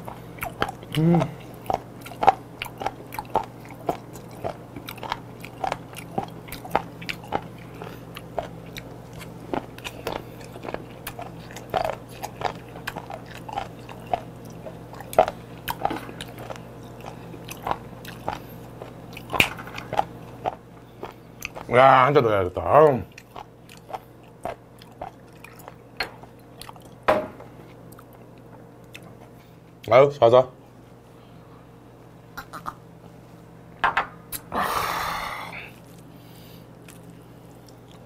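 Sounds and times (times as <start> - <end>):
crunchy wet chewing: 0.0 - 22.2, 22.8 - 27.0, 27.6 - 29.8, 35.6 - 38.0.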